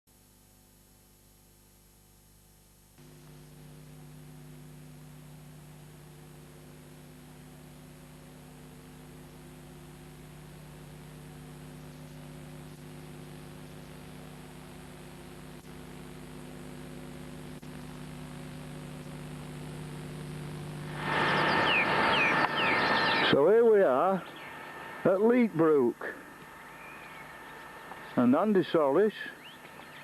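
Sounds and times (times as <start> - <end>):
electrical hum with hiss: 0.1 - 30.0
outdoor sound: 3.0 - 30.0.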